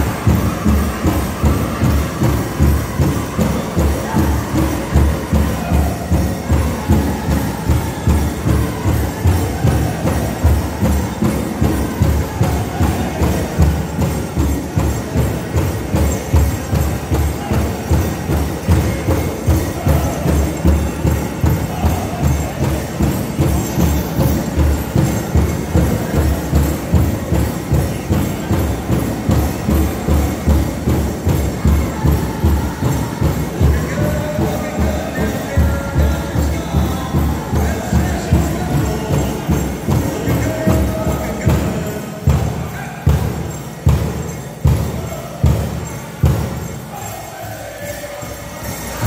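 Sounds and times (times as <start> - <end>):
bells jingling: 0.0 - 49.0
big drum steady beat: 0.0 - 49.0.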